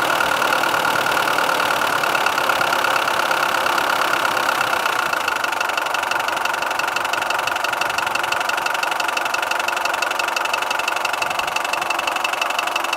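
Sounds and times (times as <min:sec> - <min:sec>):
diesel engine running: 0:00.0 - 0:12.9
high-pitched metallic engine knock: 0:00.2 - 0:12.9.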